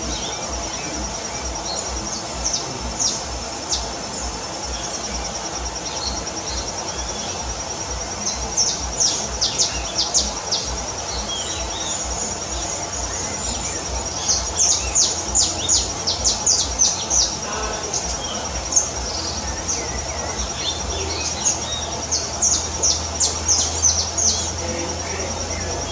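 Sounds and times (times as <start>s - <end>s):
birds chirping: 0.0s - 25.9s
insect trill: 0.0s - 25.9s.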